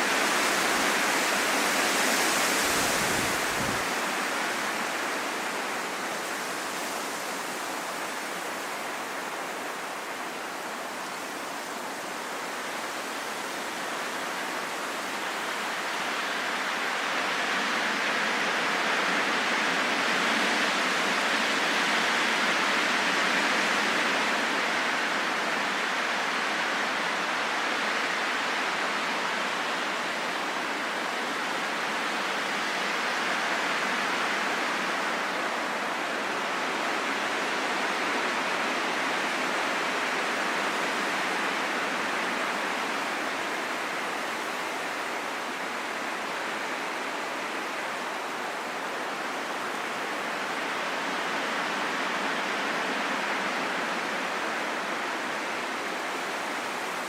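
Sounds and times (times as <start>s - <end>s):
rushing wind: 0.0s - 57.0s.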